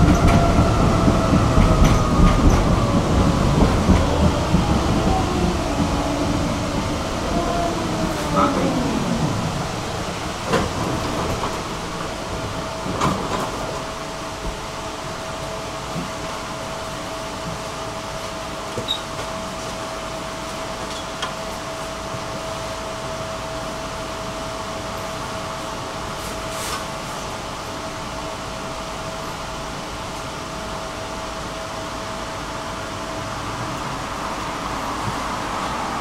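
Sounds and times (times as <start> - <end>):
tram hum with high whine: 0.0 - 36.0.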